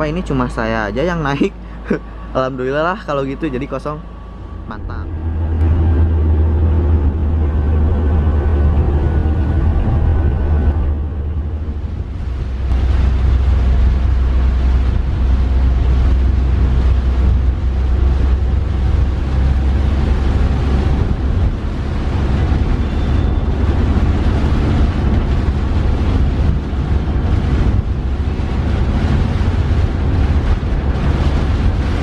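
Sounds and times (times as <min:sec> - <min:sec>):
van engine and road rumble: 0:00.0 - 0:32.0.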